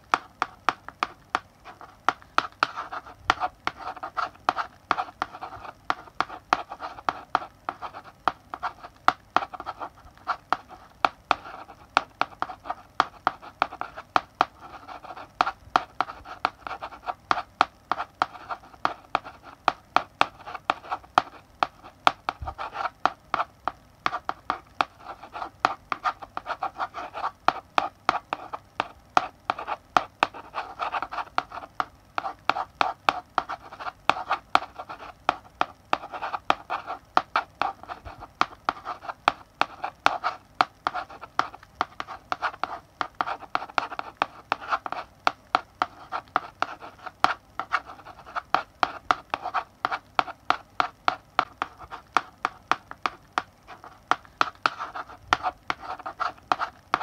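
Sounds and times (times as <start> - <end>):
chalk writing on blackboard: 0.0 - 57.0.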